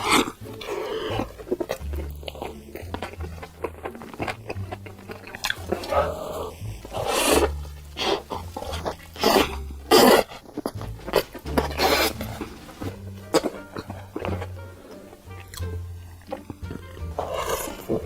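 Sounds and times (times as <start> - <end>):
person biting and chewing food: 0.0 - 18.0.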